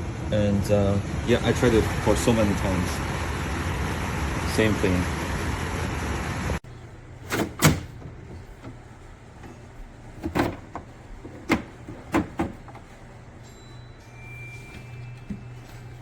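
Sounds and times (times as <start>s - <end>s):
air conditioner fan rushing: 0.0s - 16.0s.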